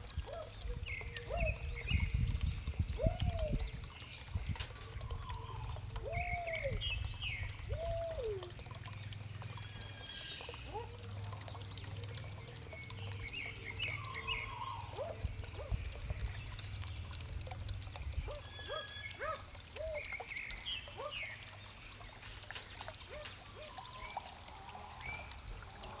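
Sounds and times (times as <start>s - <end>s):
birds calling: 0.1s - 26.0s.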